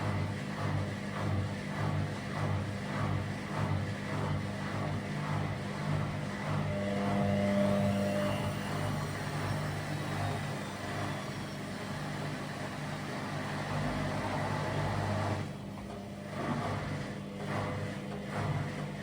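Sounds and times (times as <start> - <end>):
washing machine spin cycle: 0.0 - 19.0.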